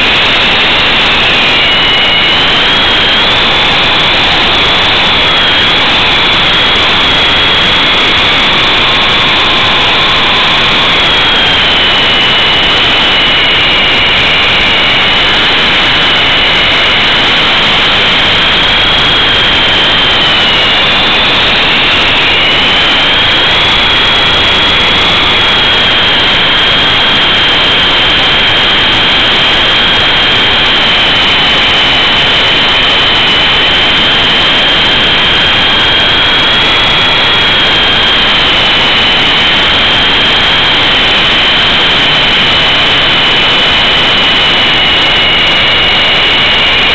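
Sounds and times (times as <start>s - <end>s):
electric motor whine: 0.0s - 46.9s
helicopter rotor and wind rush: 0.0s - 46.9s.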